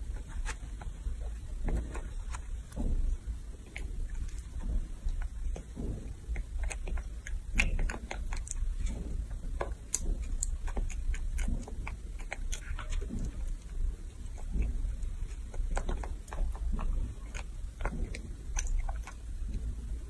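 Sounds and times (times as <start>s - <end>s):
monkey chewing with wet smacking: 0.0s - 20.0s.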